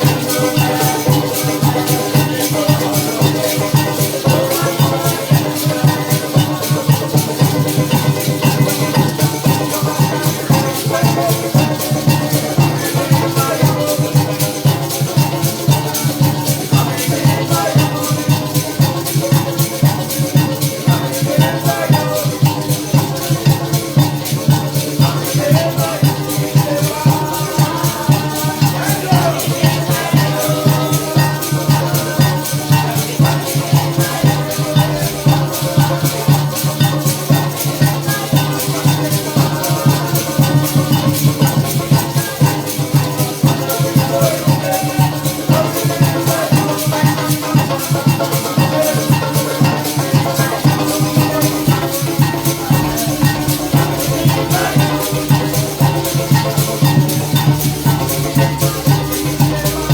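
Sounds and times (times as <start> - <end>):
band playing latin-caribbean song: 0.0 - 59.9
maracas shaking: 0.0 - 59.9.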